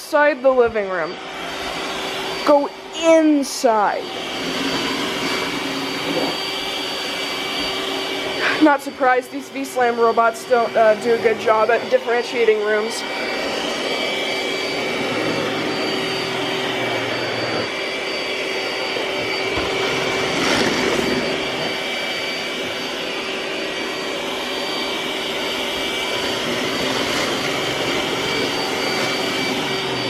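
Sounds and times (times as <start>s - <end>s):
robot vacuum whirring: 0.0s - 30.0s
whining tones: 0.0s - 30.0s.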